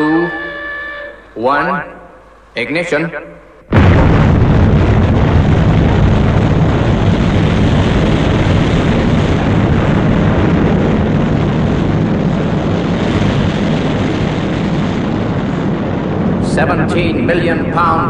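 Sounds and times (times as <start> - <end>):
rocket engines roaring: 0.0 - 18.0.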